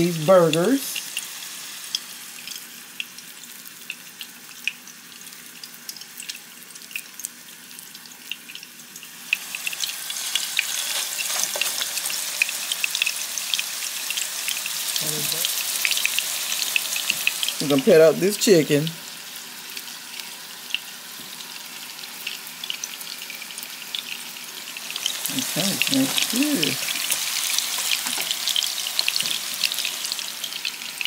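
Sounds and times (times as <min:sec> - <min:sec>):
food frying in a pan: 0:00.0 - 0:31.0.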